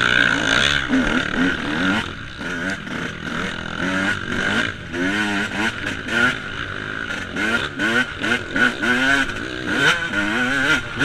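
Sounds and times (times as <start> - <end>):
motocross engine revving: 0.0 - 11.0.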